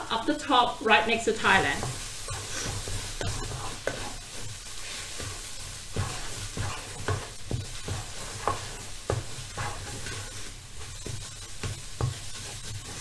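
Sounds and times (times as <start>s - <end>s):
paste sizzling hiss: 0.5s - 13.0s
spatula scraping a pan: 1.4s - 13.0s.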